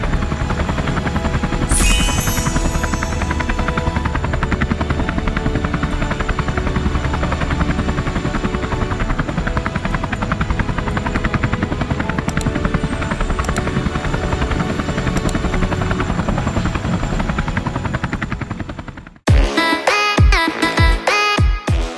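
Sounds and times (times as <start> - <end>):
helicopter engine running: 0.0 - 19.2
helicopter rotor beating: 0.0 - 19.2.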